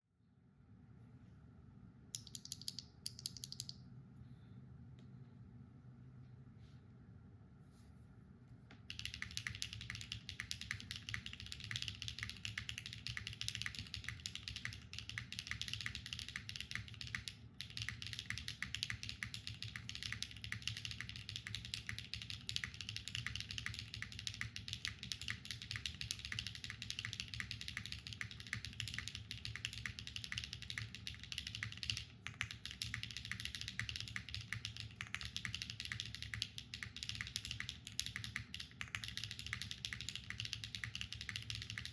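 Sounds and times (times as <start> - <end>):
typing on mechanical keyboard: 2.2 - 3.8, 8.9 - 41.9.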